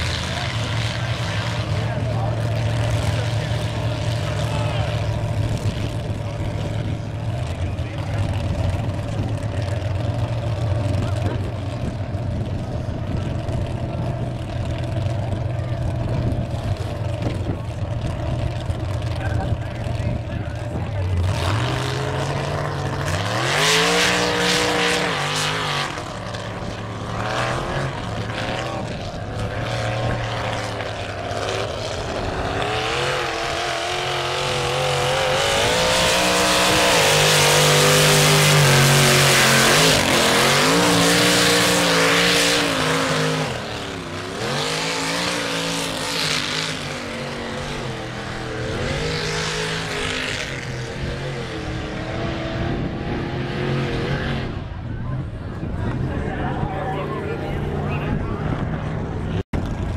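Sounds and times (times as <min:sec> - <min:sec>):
truck engine revving: 0:00.0 - 0:59.9
tyres churning mud: 0:00.0 - 0:59.9.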